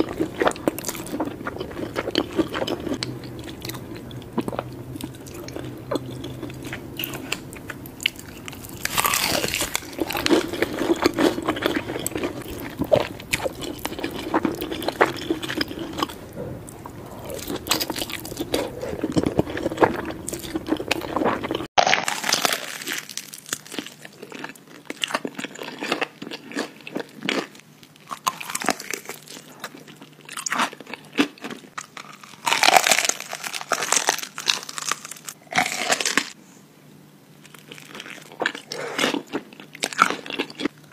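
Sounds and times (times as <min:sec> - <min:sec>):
crunchy chewing of fried chicken: 0:00.0 - 0:36.4, 0:37.4 - 0:40.9
background hum: 0:00.0 - 0:40.9.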